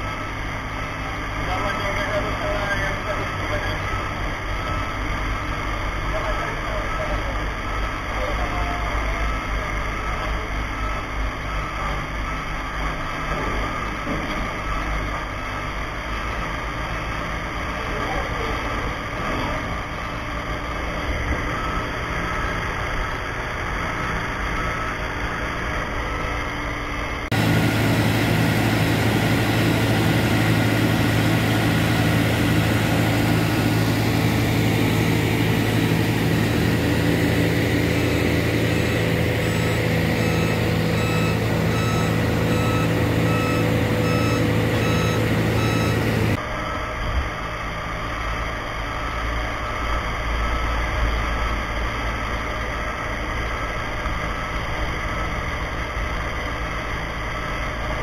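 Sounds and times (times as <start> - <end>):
reversing alarm beeping: 0.0 - 48.1, 48.9 - 52.1
truck engine running: 0.0 - 58.0.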